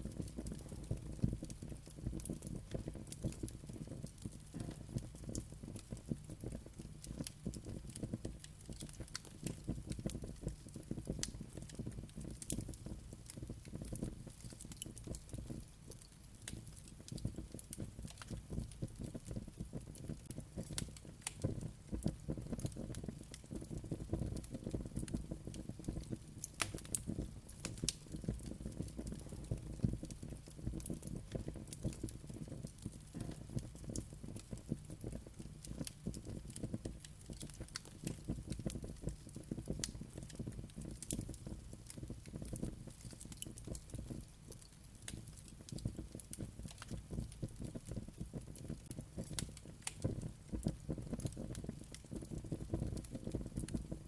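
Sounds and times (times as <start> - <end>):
flames rumbling: 0.0 - 54.0
wood fire crackling: 0.0 - 54.0.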